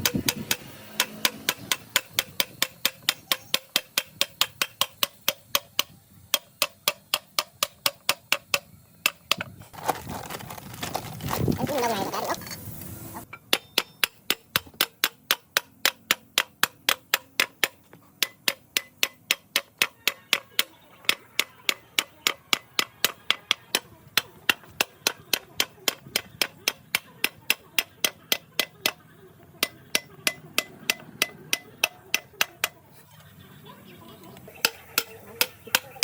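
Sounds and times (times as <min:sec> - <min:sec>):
hand hammer striking metal: 0:00.0 - 0:09.5, 0:13.3 - 0:32.9, 0:34.5 - 0:36.0.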